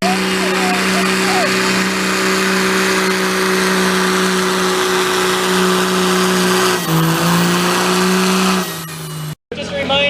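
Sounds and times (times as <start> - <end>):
truck engine at full throttle: 0.0 - 9.4.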